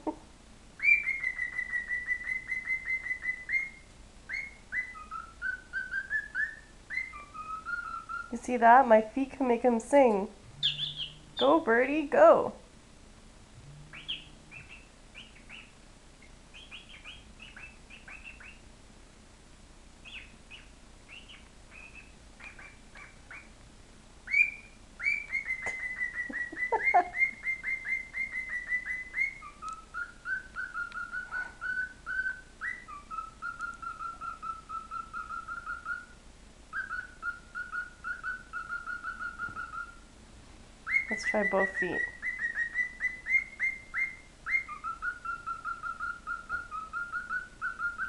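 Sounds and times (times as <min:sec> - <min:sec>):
songbird chirping and trilling: 0:00.8 - 0:12.6, 0:13.5 - 0:18.8, 0:20.0 - 0:23.6, 0:24.2 - 0:40.1, 0:40.8 - 0:48.0.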